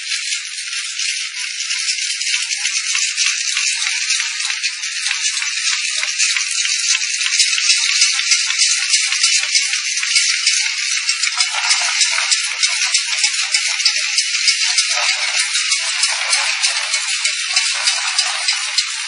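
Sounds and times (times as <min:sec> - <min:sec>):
labeling machine rattling: 0:02.4 - 0:19.0.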